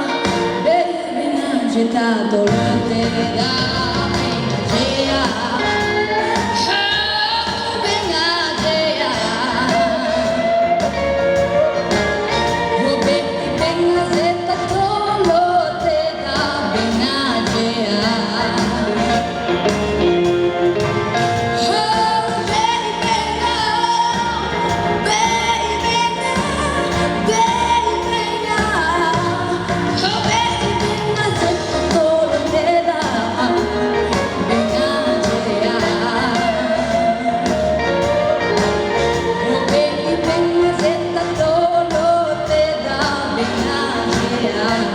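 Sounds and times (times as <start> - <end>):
instrumental accompaniment with beat: 0.0 - 0.8, 2.4 - 44.9
woman singing: 0.0 - 20.2, 20.8 - 44.9.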